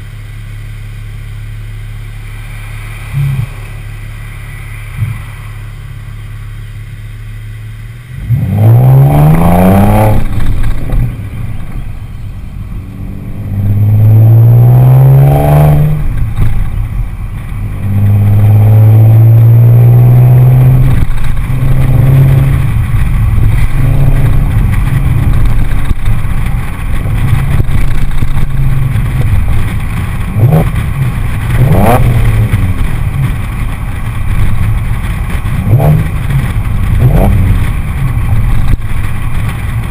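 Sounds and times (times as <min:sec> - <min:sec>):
car exhaust revving and droning: 0:00.0 - 0:39.9.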